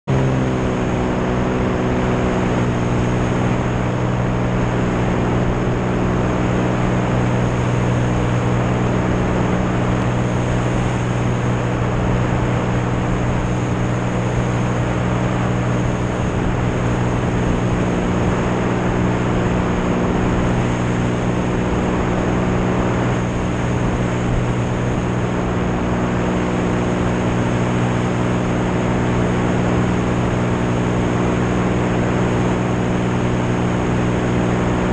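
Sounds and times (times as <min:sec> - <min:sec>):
propeller aircraft engine droning: 0:00.0 - 0:34.9
wind rushing on microphone: 0:00.1 - 0:34.9.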